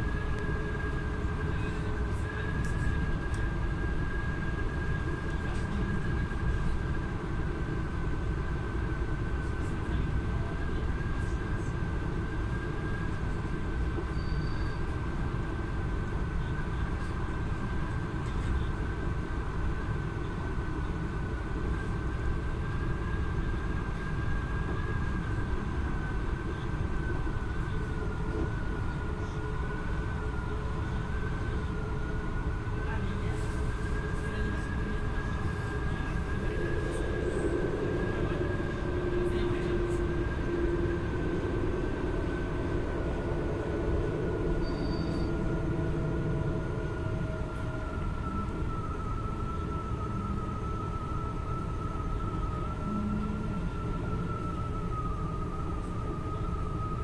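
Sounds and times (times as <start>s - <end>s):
train wheels rumbling on track: 0.0s - 48.8s
high-pitched train whine: 0.0s - 57.0s.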